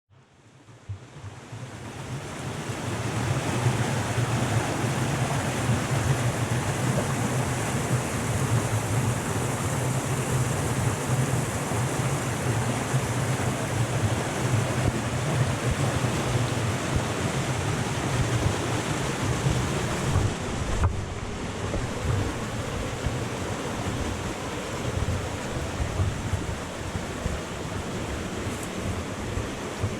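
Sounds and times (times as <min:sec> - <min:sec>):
waterfall roaring: 0:01.9 - 0:29.9.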